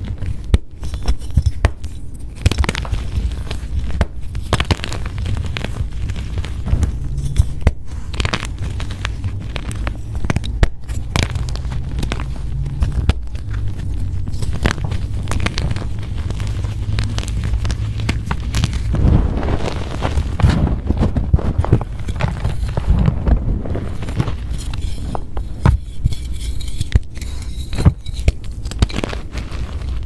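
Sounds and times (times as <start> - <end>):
chalk blocks crunching: 0.0 - 30.0
low steady rumble: 0.0 - 30.0.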